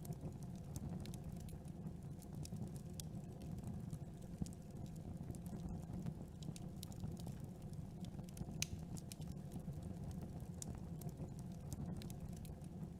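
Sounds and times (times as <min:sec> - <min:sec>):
campfire flames rumbling: 0:00.0 - 0:12.9
wood crackling and popping: 0:00.0 - 0:12.9.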